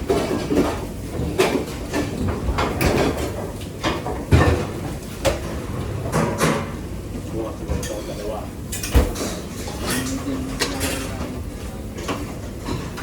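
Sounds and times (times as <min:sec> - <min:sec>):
kitchen knocks and clatters: 0:00.0 - 0:06.8, 0:07.6 - 0:13.0
steady background hum: 0:00.0 - 0:13.0.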